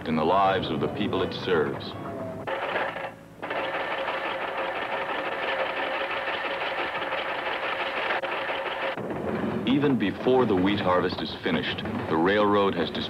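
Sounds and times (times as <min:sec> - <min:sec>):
engine humming: 0:00.0 - 0:13.0
machinery clattering: 0:00.0 - 0:13.0.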